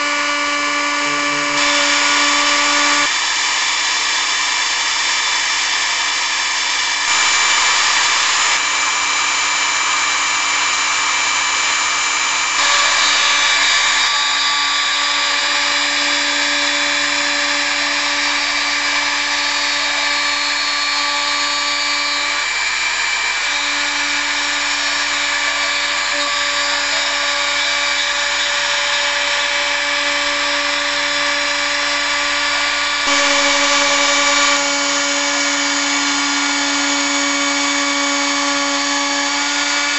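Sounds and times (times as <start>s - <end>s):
bit carving wood: 0.0s - 39.9s
router spindle whining: 0.0s - 39.9s.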